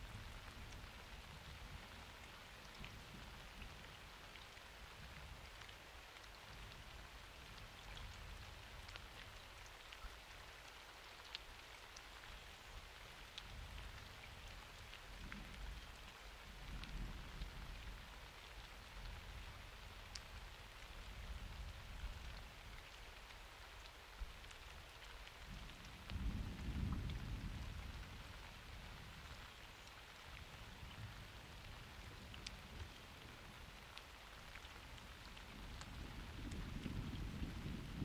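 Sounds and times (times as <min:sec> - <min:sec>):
raindrops ticking close by: 0:00.0 - 0:38.0
steady rain: 0:00.0 - 0:38.0.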